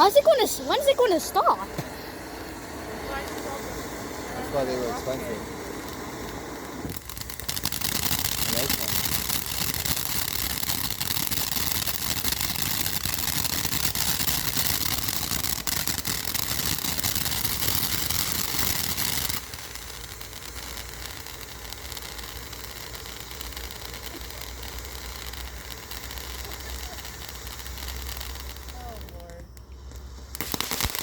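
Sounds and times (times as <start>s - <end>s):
fountain firework hissing: 0.0s - 31.0s.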